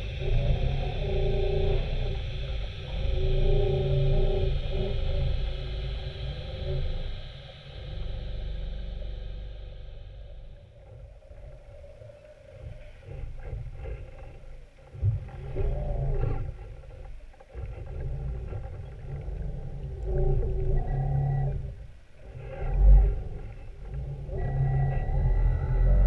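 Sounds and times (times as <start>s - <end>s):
motorboat engines heard underwater: 0.0s - 26.0s.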